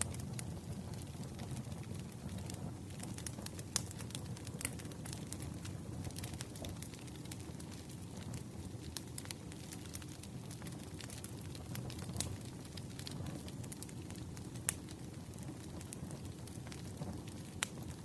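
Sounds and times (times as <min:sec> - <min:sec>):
campfire burning: 0:00.0 - 0:18.0
wood crackling and popping: 0:00.0 - 0:18.0.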